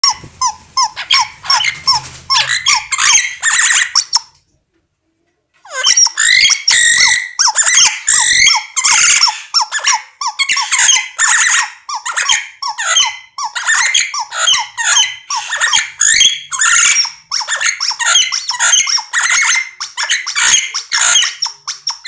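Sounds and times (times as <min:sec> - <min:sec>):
squeaky toy squeaking: 0:00.0 - 0:04.3, 0:05.6 - 0:22.0
parrot squawking: 0:00.0 - 0:04.4, 0:05.6 - 0:22.0.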